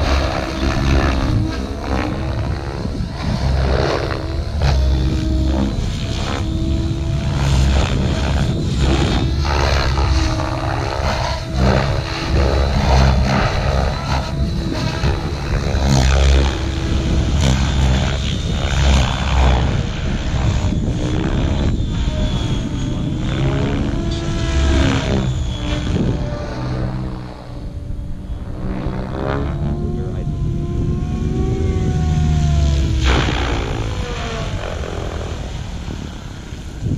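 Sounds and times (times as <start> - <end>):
model helicopter rotor and motor: 0.0 - 36.9.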